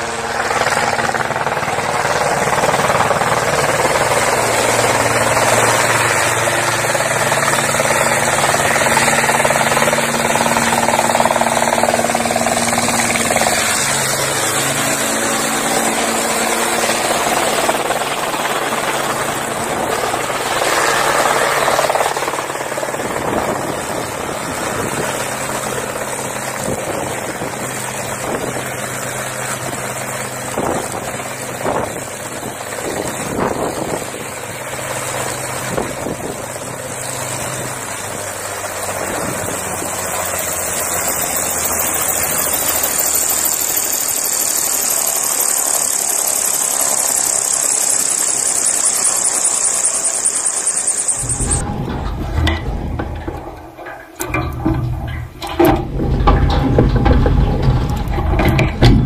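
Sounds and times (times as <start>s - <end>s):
helicopter engine idling: 0.0s - 59.0s.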